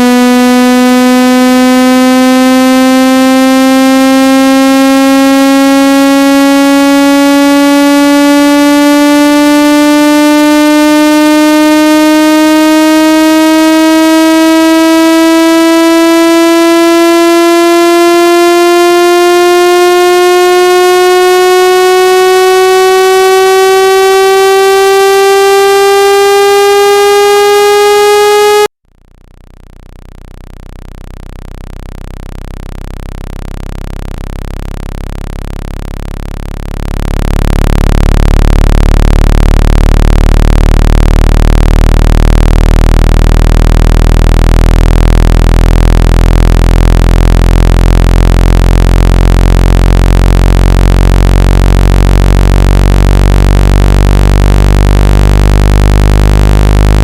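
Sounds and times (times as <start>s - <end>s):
buzzy tone rising in pitch: 0.0s - 28.7s, 29.7s - 57.0s
low buzzy tone: 0.0s - 57.0s.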